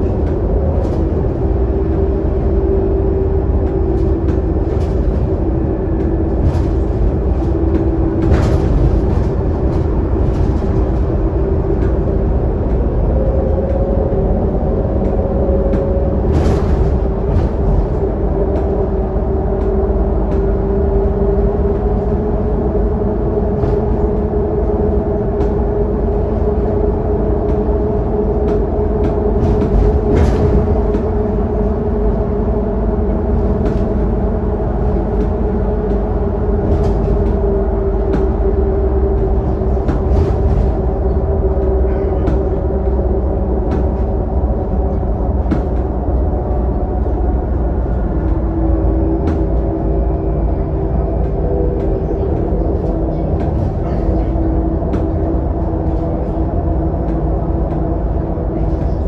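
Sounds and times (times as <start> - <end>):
bus engine drone with whine: 0.0 - 59.0
road rumble: 0.0 - 59.0.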